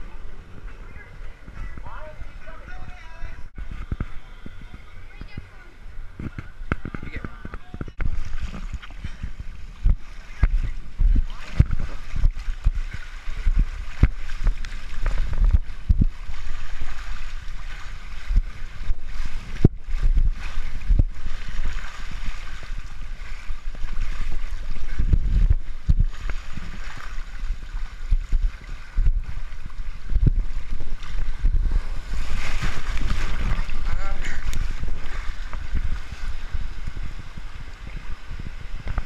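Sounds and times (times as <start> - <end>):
water rushing: 0.0 - 39.0
wind buffeting microphone: 0.0 - 39.0
short low thumps: 6.1 - 21.4, 22.7 - 39.0.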